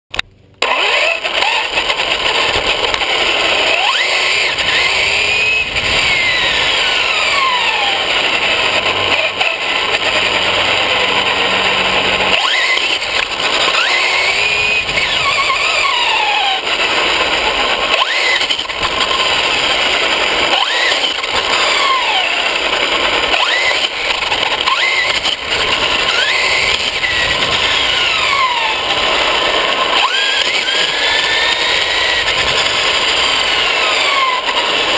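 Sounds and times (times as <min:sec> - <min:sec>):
electric motor whining: 0:00.6 - 0:34.9
tyres rushing on gravel: 0:00.6 - 0:34.9.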